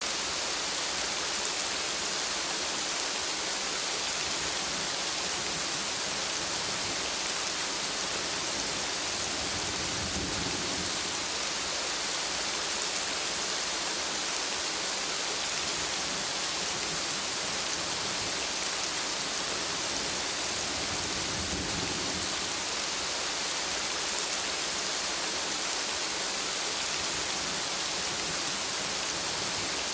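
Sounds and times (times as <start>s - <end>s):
gentle rain falling: 0.0s - 29.9s.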